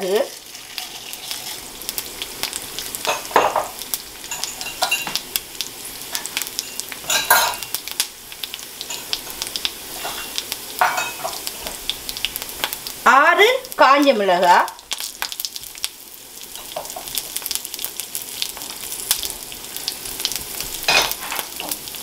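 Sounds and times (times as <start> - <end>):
seeds sizzling in hot oil: 0.0 - 22.0.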